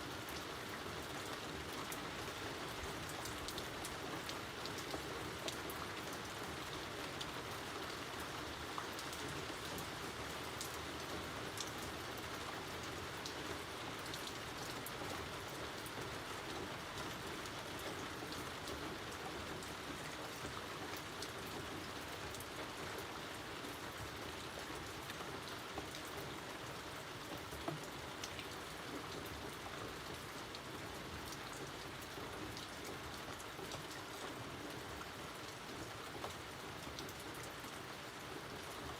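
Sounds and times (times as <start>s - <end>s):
steady rain hiss: 0.0s - 38.9s
raindrops ticking on surface: 0.2s - 38.9s.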